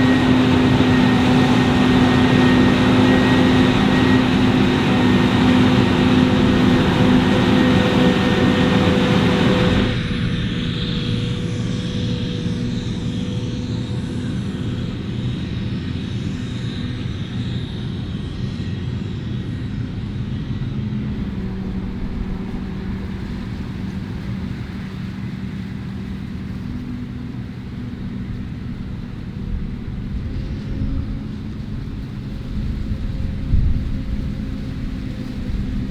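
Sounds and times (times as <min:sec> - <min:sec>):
diesel farm machinery droning: 0:00.0 - 0:35.9
high machine whine: 0:00.0 - 0:35.9.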